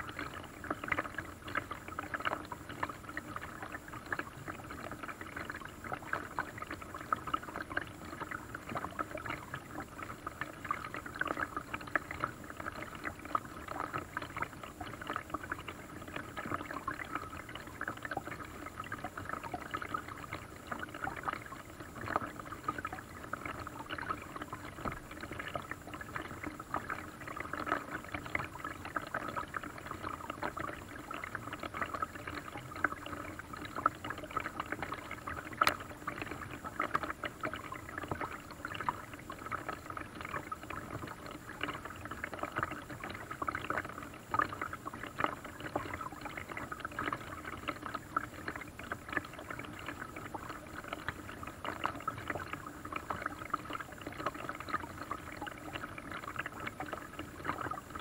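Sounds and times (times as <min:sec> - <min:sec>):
water lapping around boat: 0:00.0 - 0:58.0.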